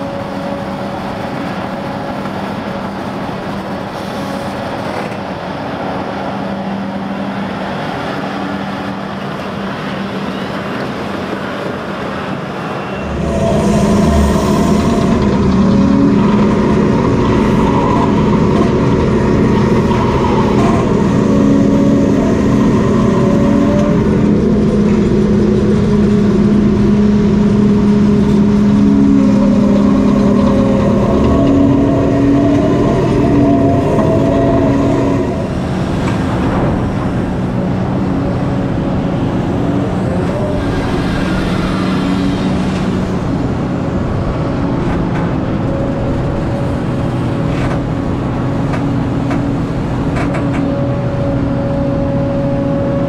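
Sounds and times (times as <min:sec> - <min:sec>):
excavator diesel engine and hydraulics: 0:00.0 - 0:53.0.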